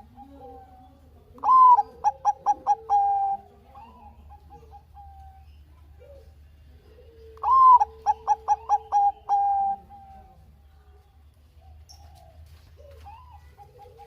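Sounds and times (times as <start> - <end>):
dove cooing song: 0.0 - 14.0.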